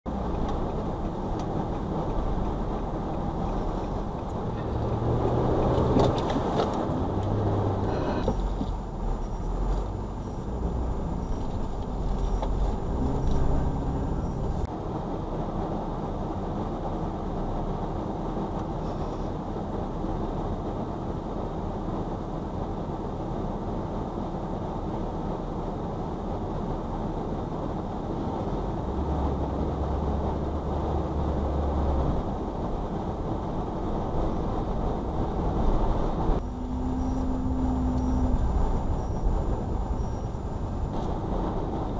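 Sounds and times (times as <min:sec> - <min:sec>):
road and tyre noise: 0:00.0 - 0:41.9
low engine hum: 0:00.1 - 0:41.9.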